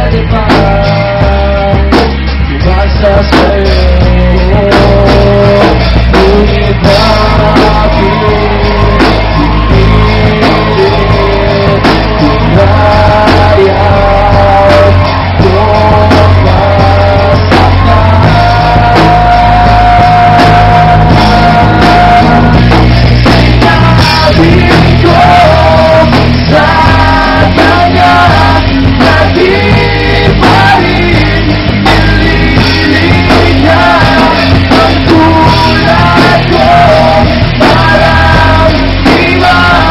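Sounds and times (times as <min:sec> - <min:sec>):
bass guitar: 0:00.0 - 0:39.9
drums: 0:00.0 - 0:39.9
electric guitars: 0:00.0 - 0:39.9
man singing into a microphone: 0:00.0 - 0:39.9.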